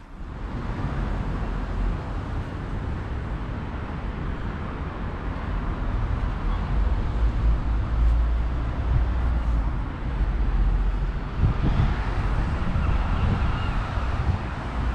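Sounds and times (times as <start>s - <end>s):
distant road traffic hiss: 0.0s - 14.9s
wind rumbling on microphone: 0.0s - 14.9s.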